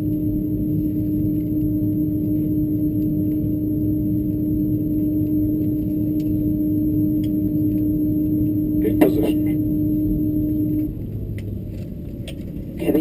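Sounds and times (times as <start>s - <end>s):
aircraft cabin hum: 0.0s - 13.0s
low engine drone: 0.0s - 13.0s.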